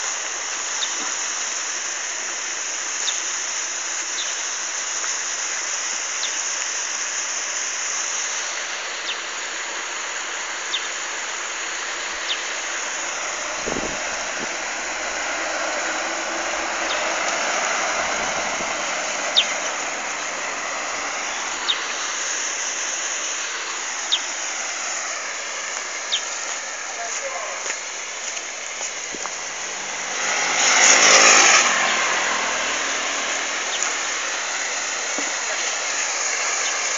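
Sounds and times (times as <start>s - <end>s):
steady outdoor hiss: 0.0s - 36.9s.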